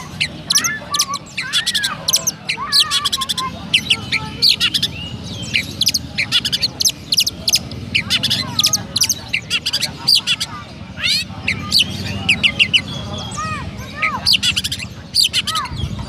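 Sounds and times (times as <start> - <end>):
bird singing sharp high chirps: 0.0 - 16.0.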